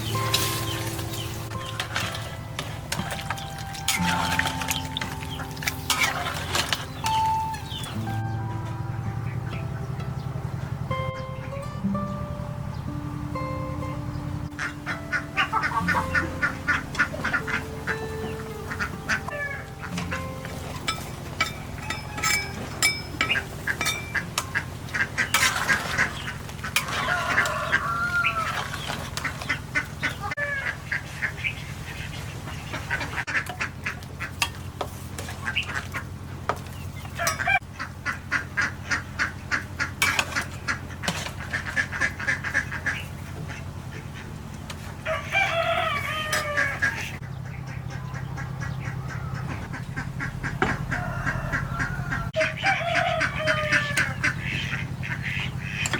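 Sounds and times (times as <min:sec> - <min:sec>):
ducks and chickens calling: 0:00.0 - 0:55.9.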